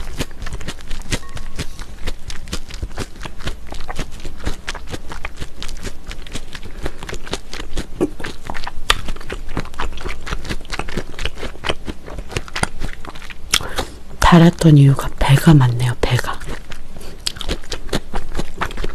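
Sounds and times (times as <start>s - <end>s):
wet crunchy chewing: 0.0s - 14.9s, 15.6s - 18.9s.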